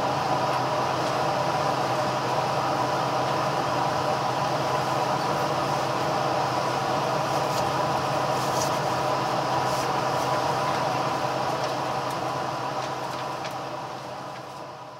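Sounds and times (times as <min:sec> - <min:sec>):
train engine and running hum: 0:00.0 - 0:14.9.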